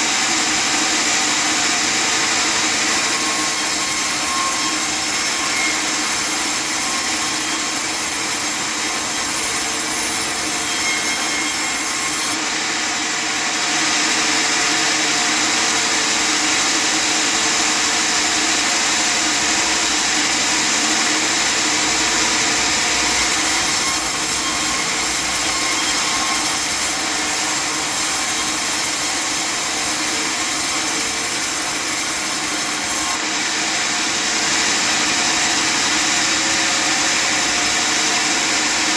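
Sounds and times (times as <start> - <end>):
sawmill cutting wood: 0.0 - 38.9.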